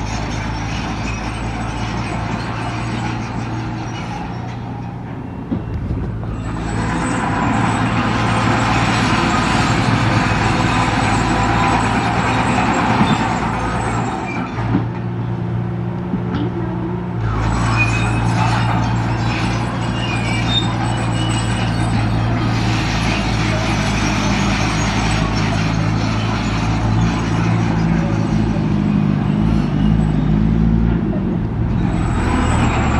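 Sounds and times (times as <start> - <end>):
diesel construction machinery running: 0.0 - 32.9.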